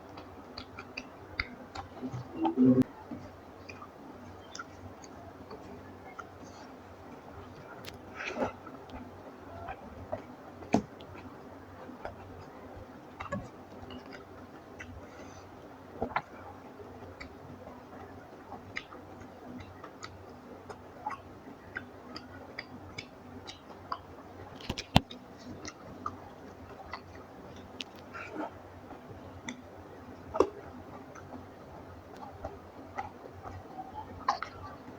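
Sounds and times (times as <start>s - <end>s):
wet chewing sounds: 0.0s - 34.9s.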